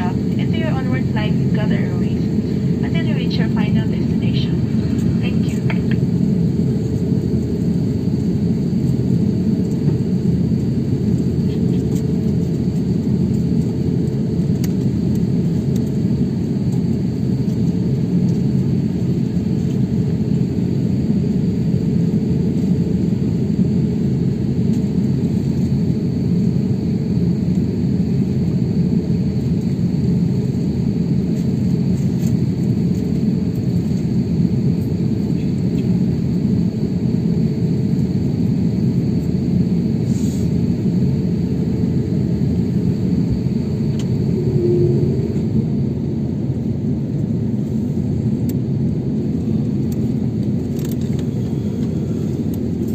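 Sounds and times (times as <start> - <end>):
airliner cabin rumble: 0.0 - 52.9.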